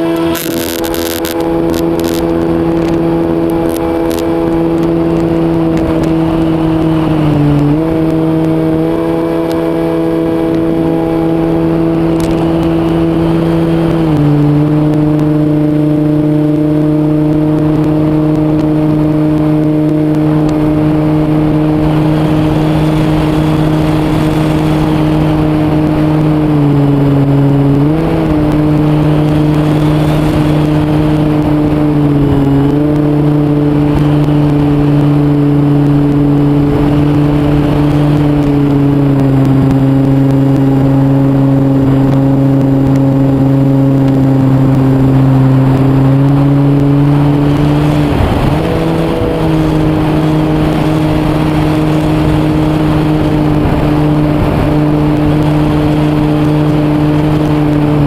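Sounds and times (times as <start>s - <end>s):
electric motor and propeller buzzing: 0.0s - 58.0s.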